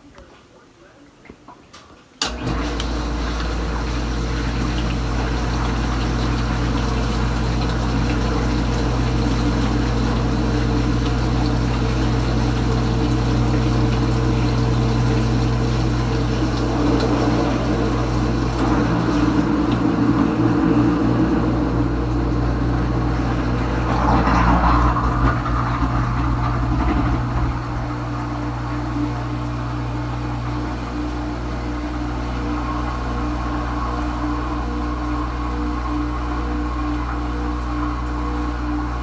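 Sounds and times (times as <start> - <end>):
dishwasher pump motor humming: 2.2 - 39.0
water rushing: 2.2 - 39.0.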